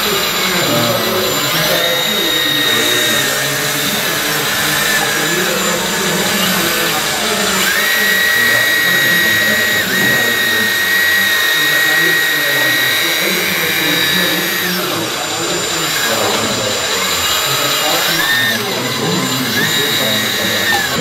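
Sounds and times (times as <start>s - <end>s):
hydraulic pump whining: 0.0s - 21.0s.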